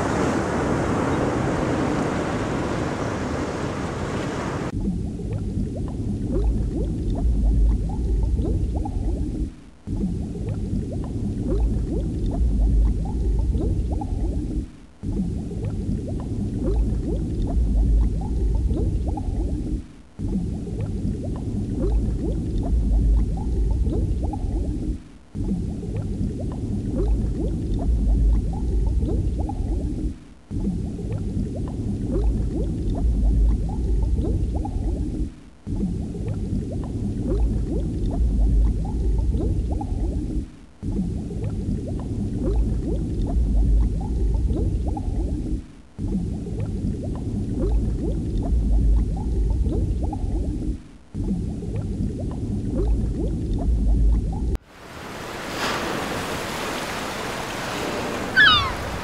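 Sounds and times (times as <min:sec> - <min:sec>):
underwater bubbling: 0:00.0 - 0:59.0.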